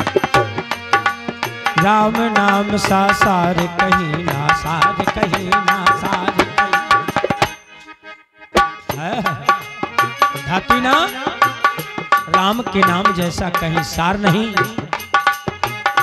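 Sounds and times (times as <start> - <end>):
fast hand-drum strokes: 0.0 - 7.6, 8.6 - 16.0
held instrumental tones: 0.0 - 16.0.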